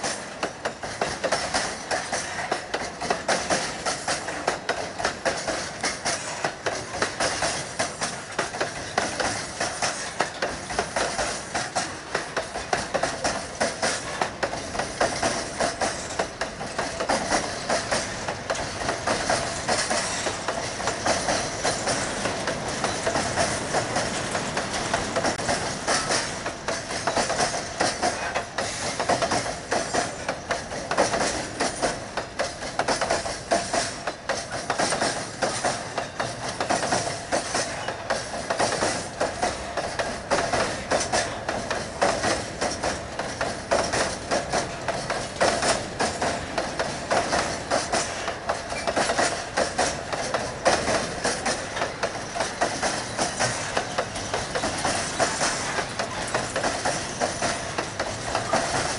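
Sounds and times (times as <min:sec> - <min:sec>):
steel wheels rolling on rail: 0:00.0 - 0:58.9
wheels clacking over rail joints: 0:00.0 - 0:58.9.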